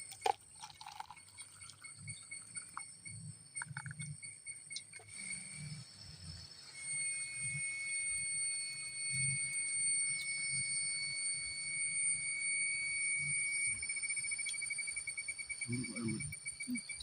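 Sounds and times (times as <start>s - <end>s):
insect trilling whine: 0.0s - 17.0s.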